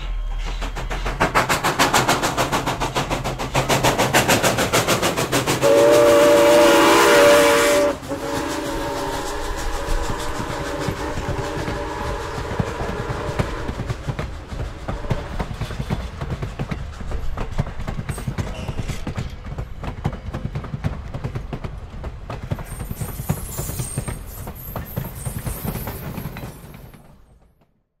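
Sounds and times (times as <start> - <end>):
train wheels clicking over rail joints: 0.0 - 27.8.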